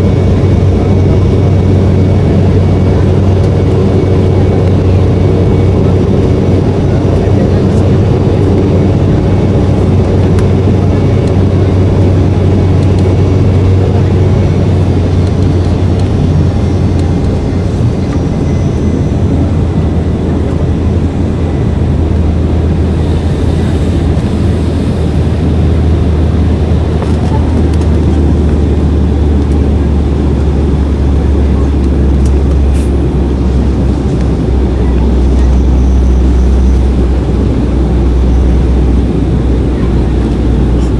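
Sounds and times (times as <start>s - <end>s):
airliner engine drone in cabin: 0.0s - 40.9s.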